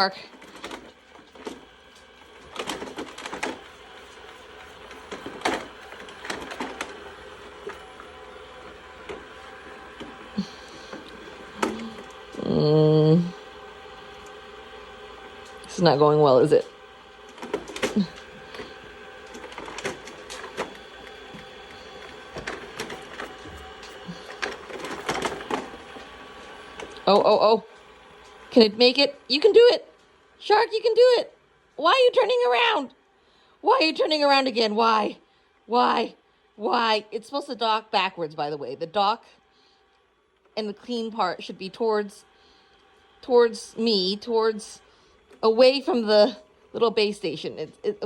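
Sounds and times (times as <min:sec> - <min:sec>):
robot vacuum motor whir: 0:00.0 - 0:33.0, 0:33.6 - 0:48.0.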